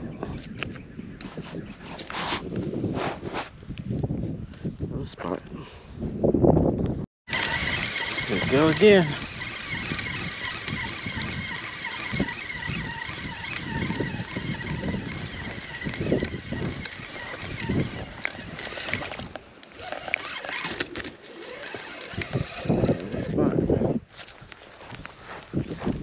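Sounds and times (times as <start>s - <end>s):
wind buffeting microphone: 0.0s - 19.4s, 21.5s - 26.0s.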